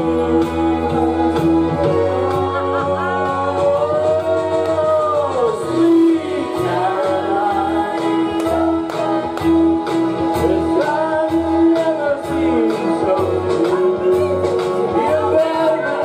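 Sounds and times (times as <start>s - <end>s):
man singing into microphone: 0.0s - 9.5s, 10.3s - 16.0s
karaoke backing track: 0.0s - 16.0s.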